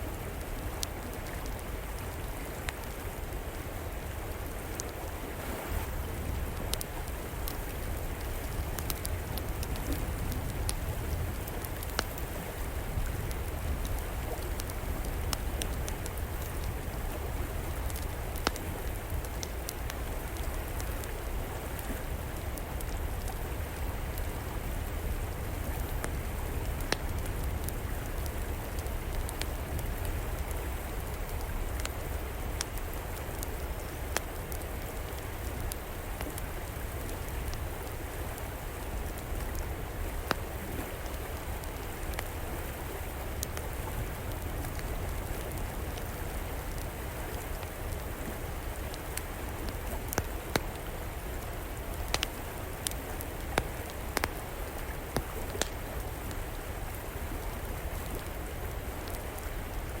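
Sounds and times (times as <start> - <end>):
river water flowing: 0.0 - 60.0
wood fire crackling: 0.1 - 60.0.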